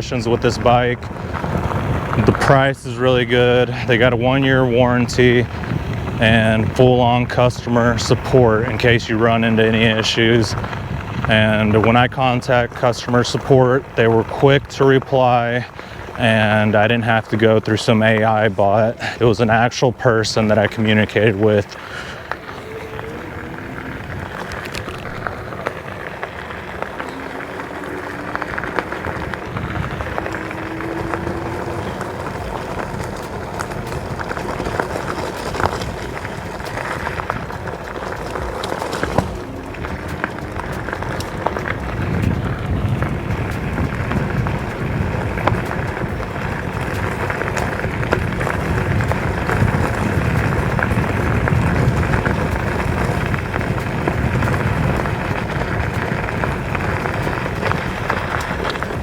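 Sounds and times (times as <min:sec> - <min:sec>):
tyres crackling over gravel: 0:00.0 - 0:59.0
wind rushing on microphone: 0:00.0 - 0:59.0.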